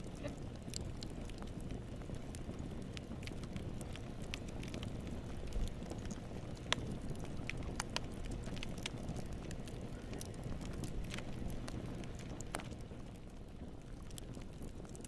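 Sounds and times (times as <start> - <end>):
low rumbling noise: 0.0 - 15.0
sharp crackles and pops: 0.0 - 15.0.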